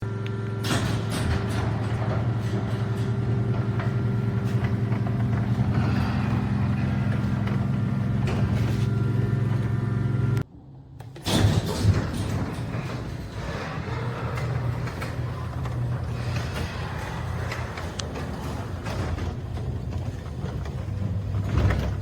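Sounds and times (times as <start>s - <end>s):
motor humming: 0.0s - 10.4s, 11.9s - 22.0s.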